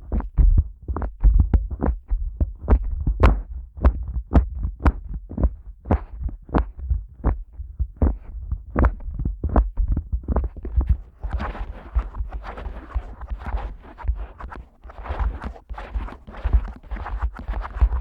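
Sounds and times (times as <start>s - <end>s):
fingers squeezing rubber microphone ears: 0.0s - 18.0s
rustling and scratching on microphone: 0.0s - 18.0s.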